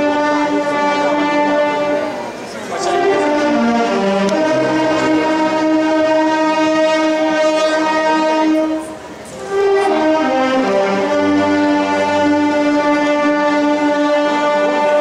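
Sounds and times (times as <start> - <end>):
brass band playing slow march: 0.0 - 15.0.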